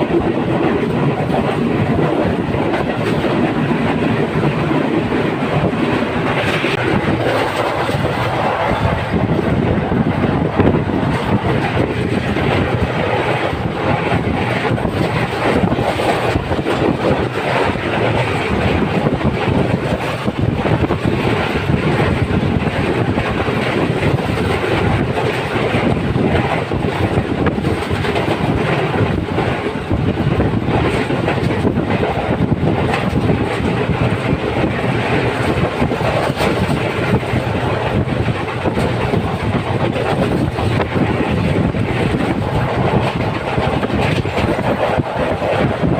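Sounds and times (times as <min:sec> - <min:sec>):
train rumbling on track: 0:00.0 - 0:45.9.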